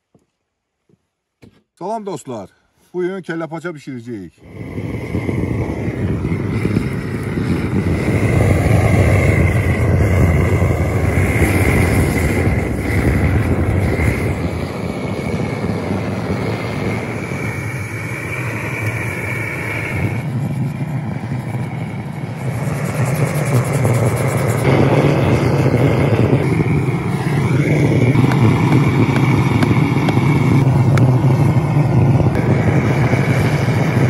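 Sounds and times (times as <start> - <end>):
blowtorch roaring: 4.4 - 34.0.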